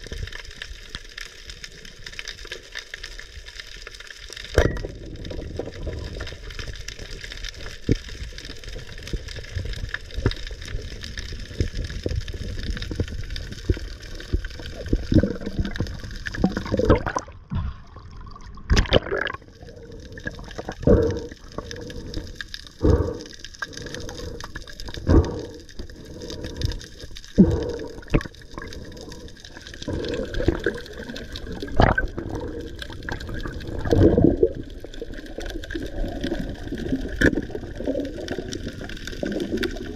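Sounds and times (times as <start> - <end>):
underwater gurgling water: 0.0 - 39.9.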